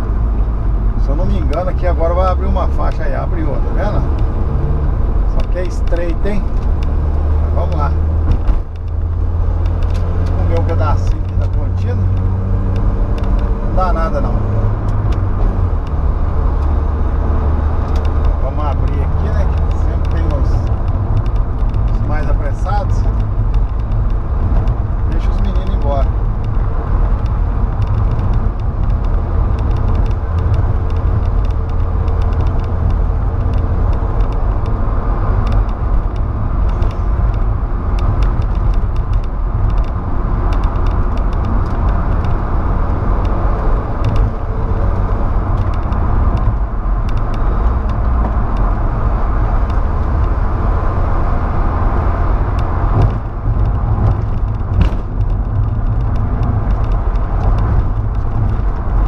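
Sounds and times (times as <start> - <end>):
engine and road noise in cab: 0.0 - 59.0.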